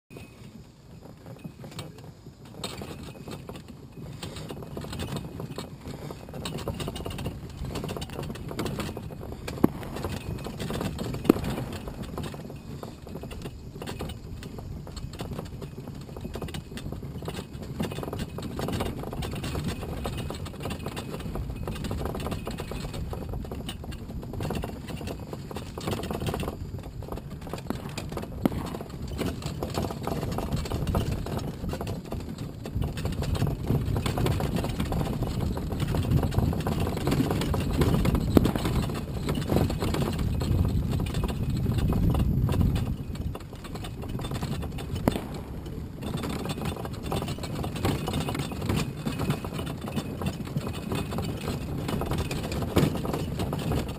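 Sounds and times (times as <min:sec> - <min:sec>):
knocking and rattling over ground: 0:00.1 - 0:53.9.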